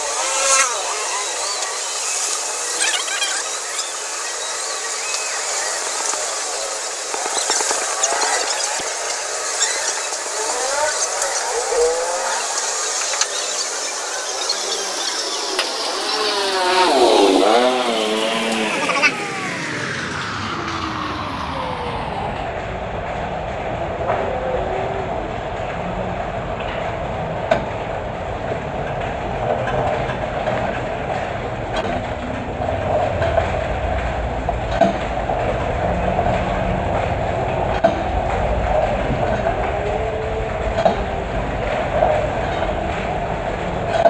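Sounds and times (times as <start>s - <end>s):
generator running: 0.0s - 44.0s.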